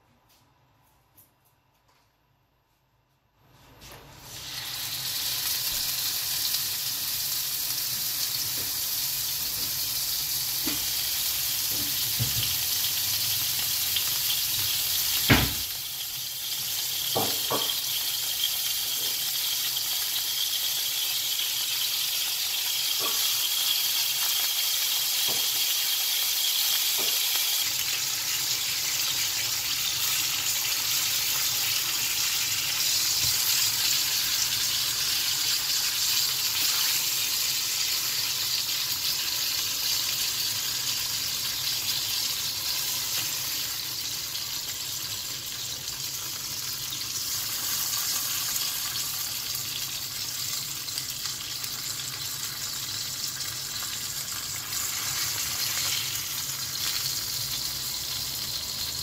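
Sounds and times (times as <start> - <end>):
fish sizzling in hot oil: 4.2 - 59.0.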